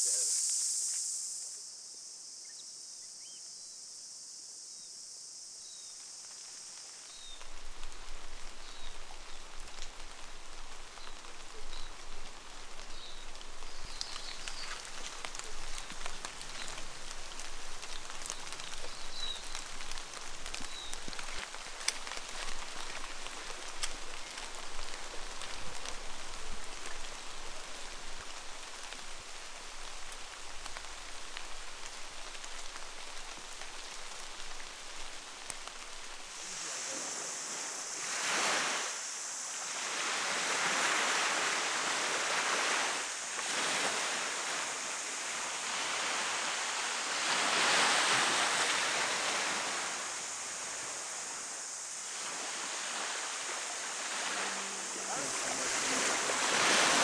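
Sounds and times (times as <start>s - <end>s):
insect chorus: 0.0s - 57.0s
rain falling: 6.0s - 57.0s.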